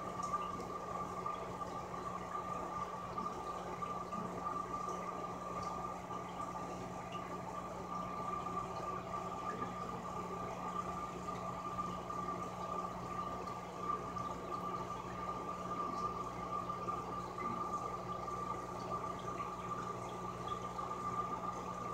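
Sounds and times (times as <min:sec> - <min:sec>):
watery bubbling: 0:00.0 - 0:21.9.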